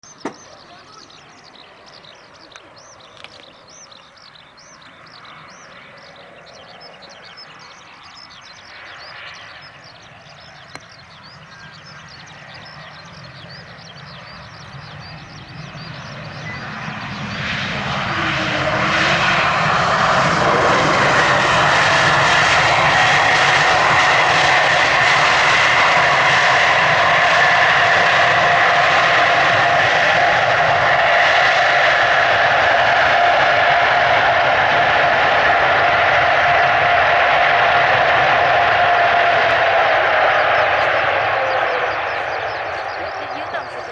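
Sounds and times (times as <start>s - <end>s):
jet engines roaring and whining: 0.0s - 43.9s.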